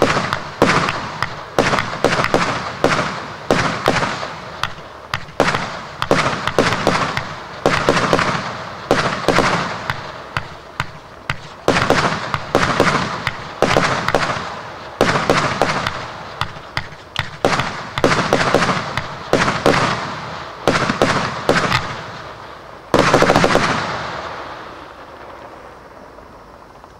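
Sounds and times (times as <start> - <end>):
fireworks firing: 0.0 - 26.1.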